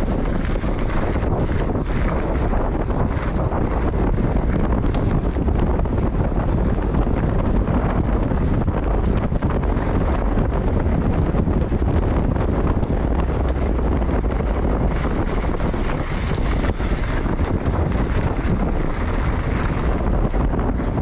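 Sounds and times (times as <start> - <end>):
bike tyres rolling on dirt: 0.0 - 21.0
wind buffeting microphone: 0.0 - 21.0.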